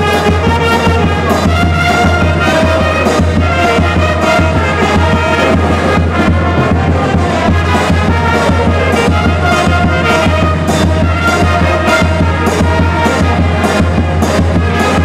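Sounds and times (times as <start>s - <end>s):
bass drum beat: 0.0s - 15.0s
trumpets playing melody: 0.0s - 15.0s.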